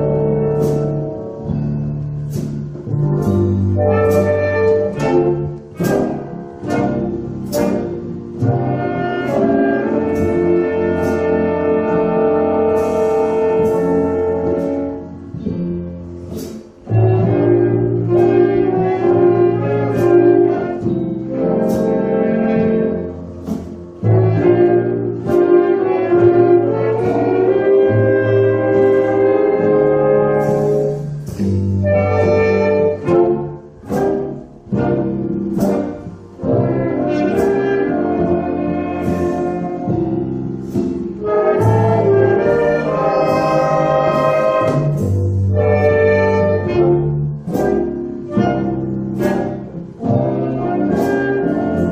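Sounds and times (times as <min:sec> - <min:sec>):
big band playing jazz: 0:00.0 - 0:51.9.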